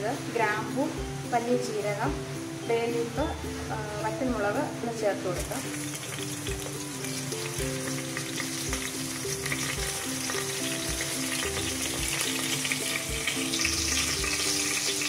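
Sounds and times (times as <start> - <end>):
soft background music: 0.0 - 15.0
spices sizzling in hot oil: 0.0 - 15.0.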